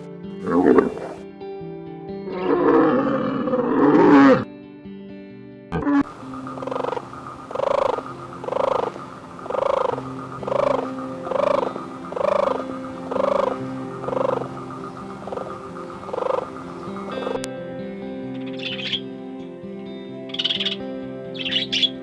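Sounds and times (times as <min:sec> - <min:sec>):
soft background music: 0:00.0 - 0:22.0
frog croaking: 0:00.4 - 0:01.2, 0:02.3 - 0:04.5, 0:05.7 - 0:22.0.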